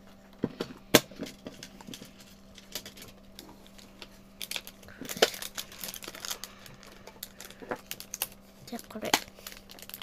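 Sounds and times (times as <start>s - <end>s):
foil packets crinkling: 1.2s - 10.0s.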